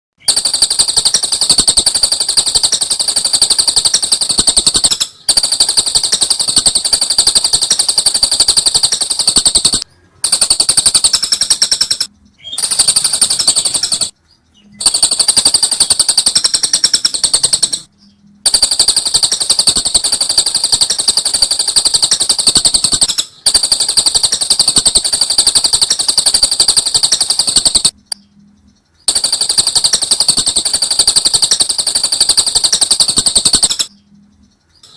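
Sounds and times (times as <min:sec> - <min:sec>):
lovebird chattering trill: 0:00.2 - 0:34.9.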